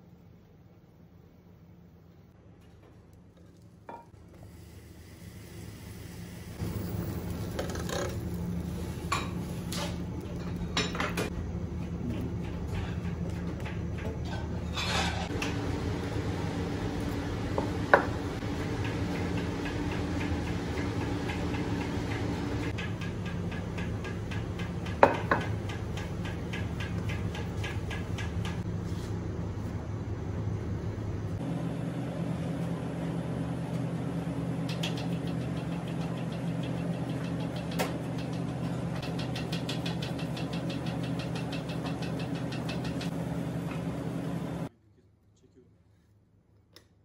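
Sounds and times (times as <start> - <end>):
low machine hum: 0.0 - 45.7.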